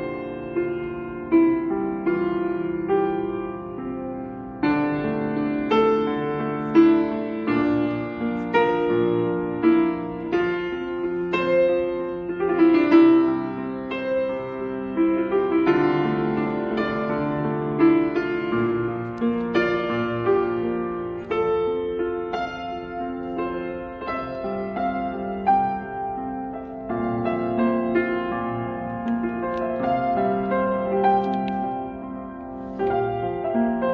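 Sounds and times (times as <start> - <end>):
solo piano: 0.0 - 33.9.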